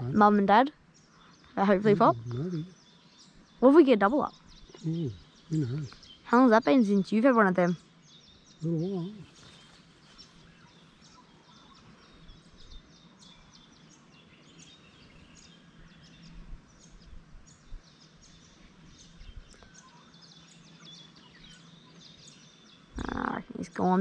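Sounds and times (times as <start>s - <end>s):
birds chirping: 0.0s - 24.0s
faint low hum: 0.0s - 24.0s.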